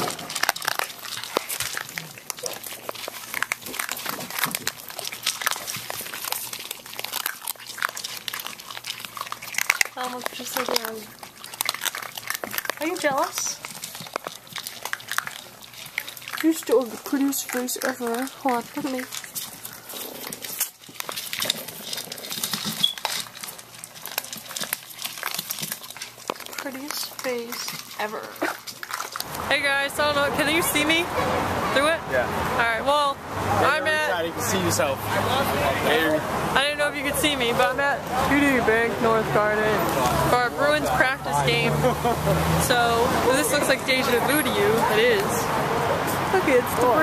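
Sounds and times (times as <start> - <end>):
paws crinkling newspaper: 0.0 - 31.7, 36.9 - 47.0
puppies crunching dry kibble: 0.0 - 47.0.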